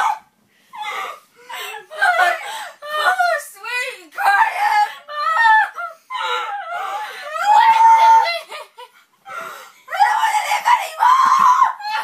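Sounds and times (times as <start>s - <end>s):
girls wailing in mock sobs: 0.0s - 3.6s, 4.2s - 12.0s.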